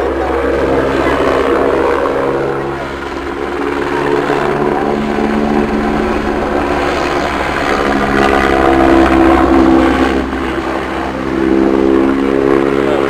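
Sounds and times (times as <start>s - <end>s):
helicopter rotor beating: 0.0s - 13.0s
helicopter turbine engine: 0.0s - 13.0s.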